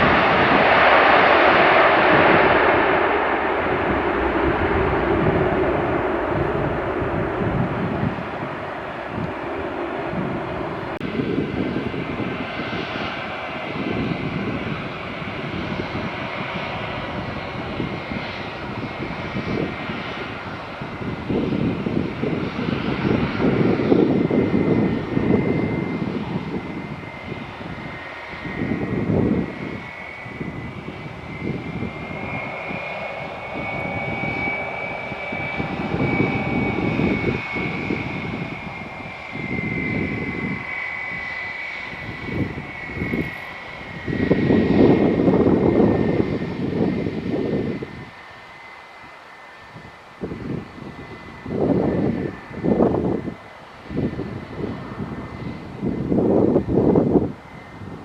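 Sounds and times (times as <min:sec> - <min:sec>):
low surging rumble: 0:00.0 - 0:48.1
jet engines whining: 0:00.0 - 0:58.0.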